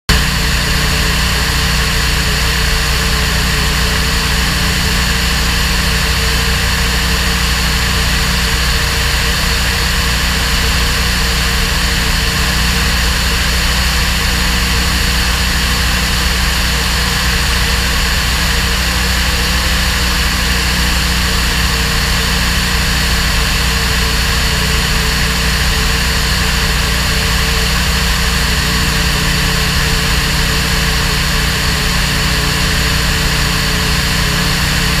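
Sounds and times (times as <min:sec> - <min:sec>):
light aircraft engine drone: 0:00.1 - 0:35.0.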